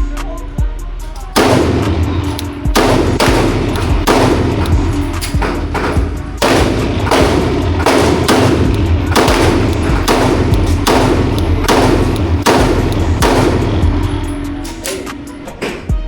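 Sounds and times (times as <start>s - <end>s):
background music with bass: 0.0s - 16.0s
pistol shots echoing: 1.2s - 15.9s.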